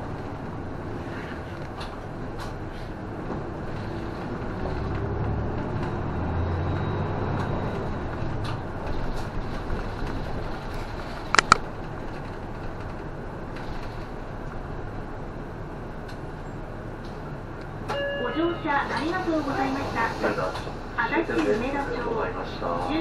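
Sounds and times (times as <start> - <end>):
bus engine: 0.0 - 23.0
road noise: 0.0 - 23.0.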